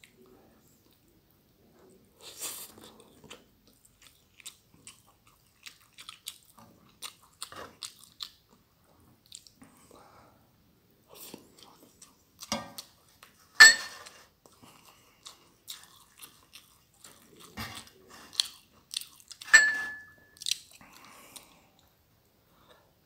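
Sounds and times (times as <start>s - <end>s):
chewing with wet clicks and smacks: 0.0s - 10.0s, 11.1s - 22.8s.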